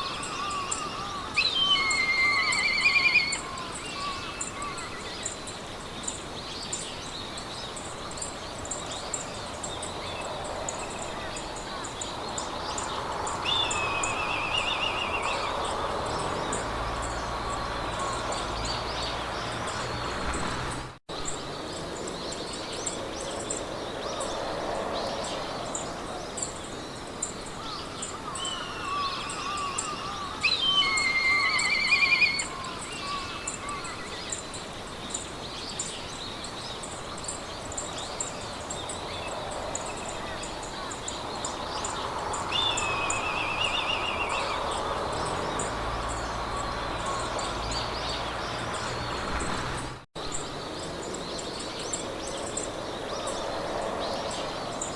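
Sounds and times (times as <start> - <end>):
birds singing warbling trills: 0.0 - 54.9
wind through grass: 0.0 - 54.9.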